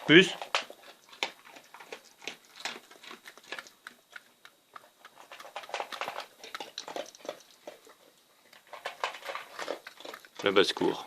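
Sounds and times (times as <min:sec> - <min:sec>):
pets crunching dry food: 0:00.0 - 0:11.0.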